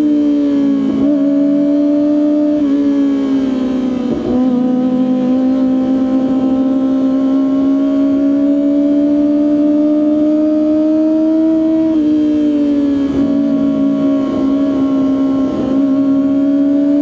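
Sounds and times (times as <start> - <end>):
high-pitched motorcycle engine revving: 0.0 - 17.0.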